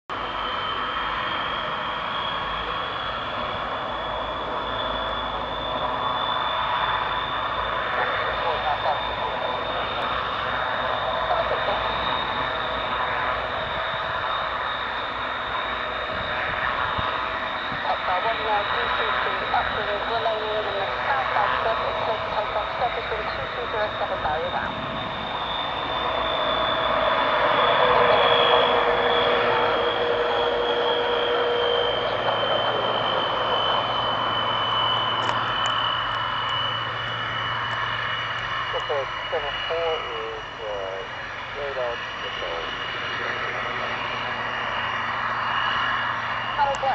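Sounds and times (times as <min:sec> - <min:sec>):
turboprop engines whining: 0:00.1 - 0:46.9.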